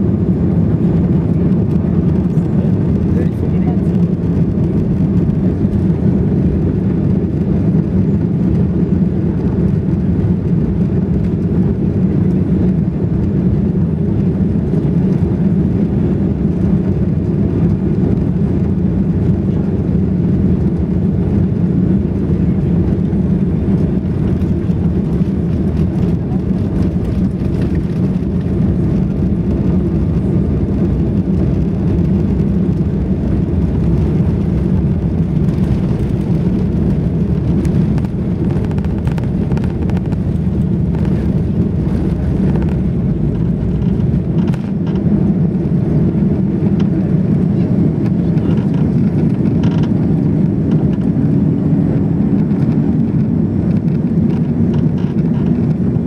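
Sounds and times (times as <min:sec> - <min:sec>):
jet engines at takeoff power: 0:00.0 - 0:56.0.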